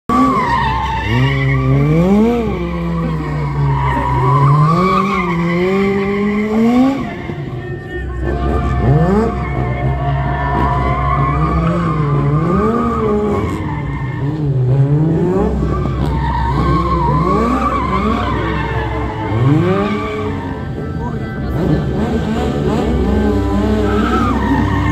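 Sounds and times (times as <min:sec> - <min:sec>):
engines revving: 0:00.1 - 0:24.9
tyres squealing and skidding: 0:00.1 - 0:24.9.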